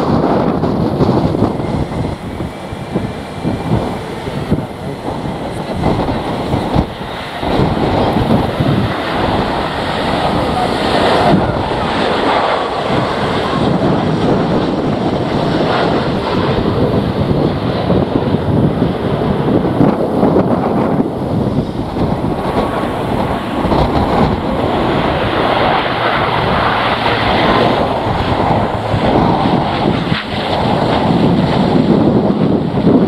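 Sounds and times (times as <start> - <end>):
gusty wind buffeting microphone: 0.0 - 33.0
jet engines of landing airliners: 0.0 - 33.0.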